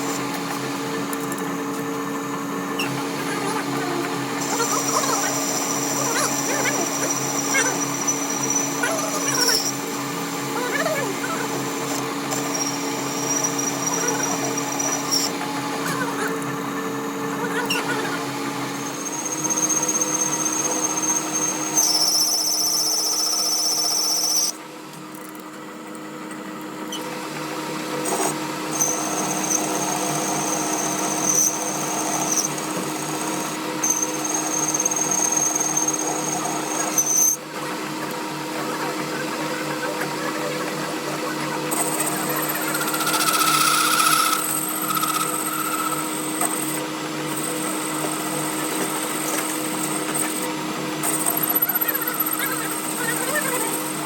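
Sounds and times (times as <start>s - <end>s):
power tool whining: 0.0s - 24.6s, 26.8s - 54.0s.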